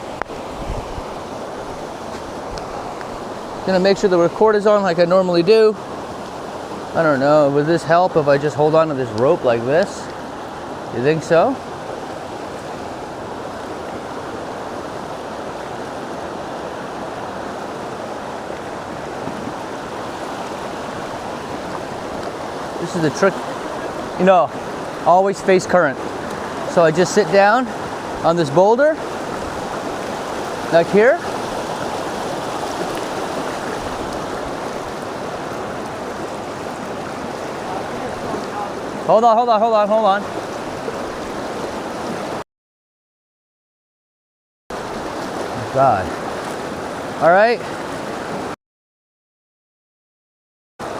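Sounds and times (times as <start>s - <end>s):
river water rushing over rocks: 0.0s - 42.4s, 44.8s - 48.6s.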